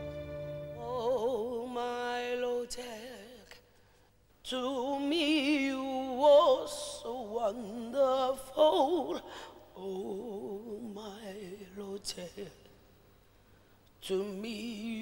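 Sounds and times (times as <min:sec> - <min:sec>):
person singing with heavy vibrato: 0:00.0 - 0:03.6, 0:04.4 - 0:12.7, 0:14.0 - 0:15.0.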